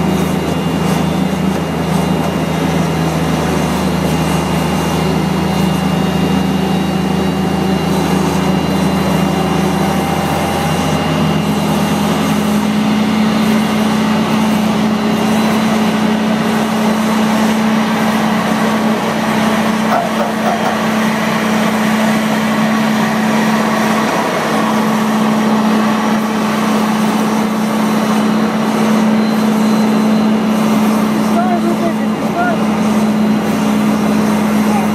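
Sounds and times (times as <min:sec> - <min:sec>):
tug engine running under load: 0:00.0 - 0:34.9.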